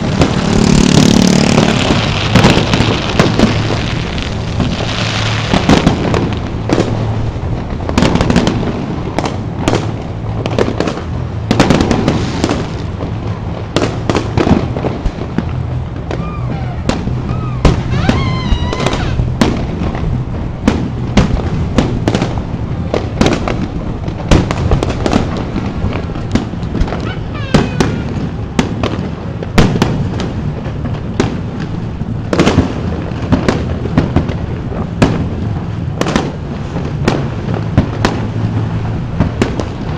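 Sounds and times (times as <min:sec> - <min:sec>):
fireworks booms: 0:00.0 - 0:39.9
fireworks cracks: 0:00.0 - 0:39.9.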